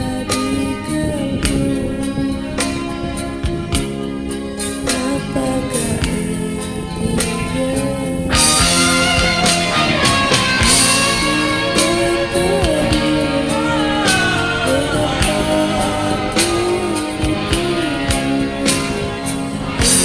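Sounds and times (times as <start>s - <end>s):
person singing: 0.0s - 3.3s, 4.8s - 20.0s
pop ballad backing track: 0.0s - 20.0s.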